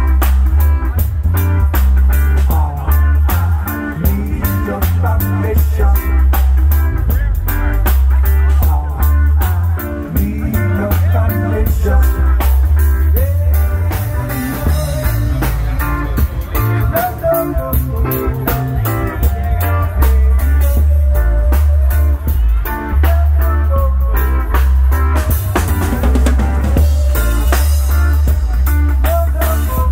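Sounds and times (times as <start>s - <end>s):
bass line: 0.0s - 29.9s
drum kit: 0.0s - 29.9s
electric guitar: 0.0s - 29.9s.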